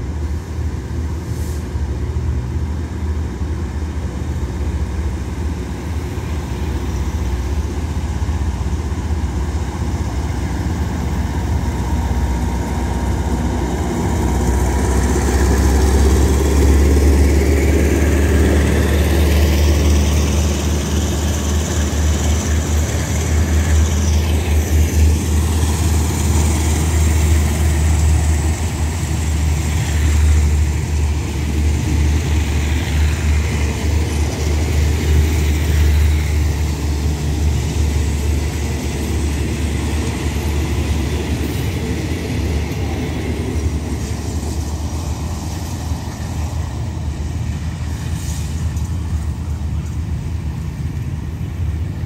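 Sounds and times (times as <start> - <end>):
locomotive engine hum: 0.0 - 52.0
train wheels hissing on rails: 0.0 - 52.0.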